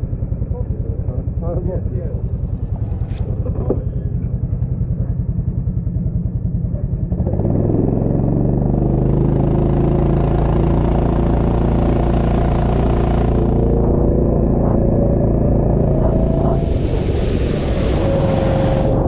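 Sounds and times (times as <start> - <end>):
go-kart engine: 0.0 - 19.0.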